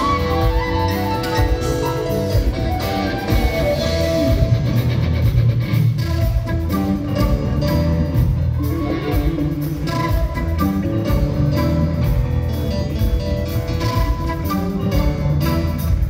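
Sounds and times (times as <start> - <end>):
flute: 0.0 - 4.9, 6.0 - 16.0
bass guitar: 0.0 - 16.0
drums: 0.0 - 16.0
electric guitar: 0.0 - 16.0.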